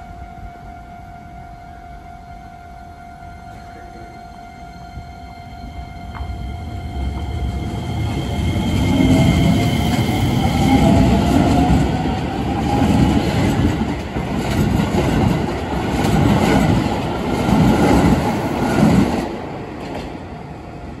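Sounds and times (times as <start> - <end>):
train wheels rumbling on rails: 3.4 - 21.0.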